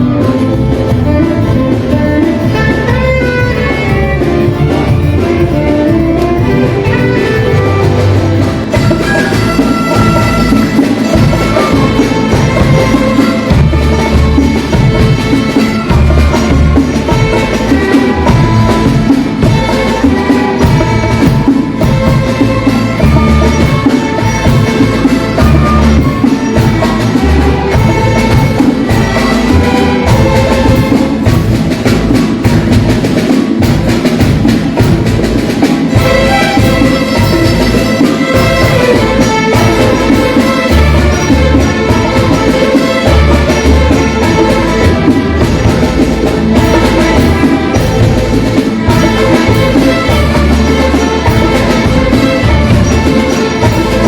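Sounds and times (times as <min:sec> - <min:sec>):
drums and percussion beat: 0:00.0 - 0:54.0
pitched instruments playing: 0:00.0 - 0:54.0.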